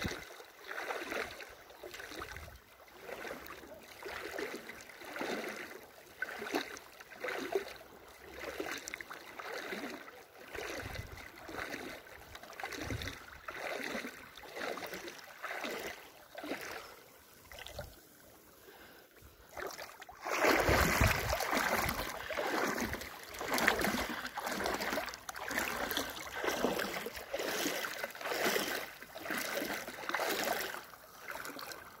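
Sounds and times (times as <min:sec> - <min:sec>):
feet splashing in shallow water: 0:00.0 - 0:32.0.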